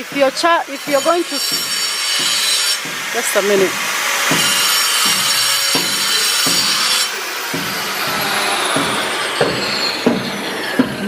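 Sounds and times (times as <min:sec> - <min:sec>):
power tool cutting stone: 0:00.0 - 0:11.0
knocks: 0:00.1 - 0:11.0.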